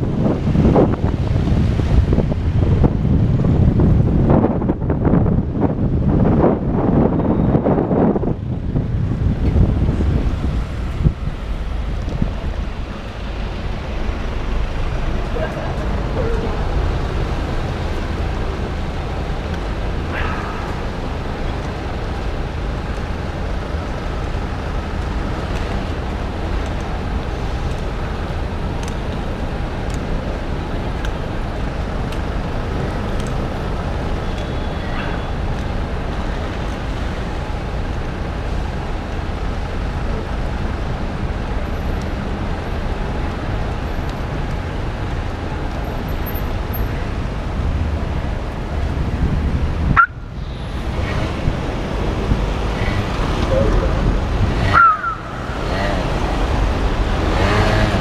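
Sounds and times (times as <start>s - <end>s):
traffic and road noise: 0.0s - 58.0s.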